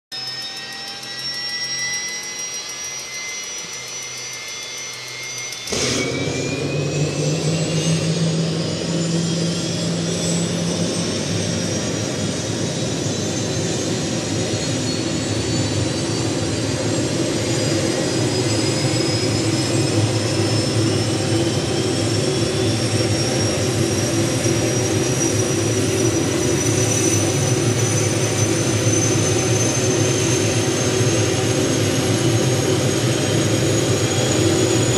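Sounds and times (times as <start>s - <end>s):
helicopter engine whine: 0.1s - 34.9s.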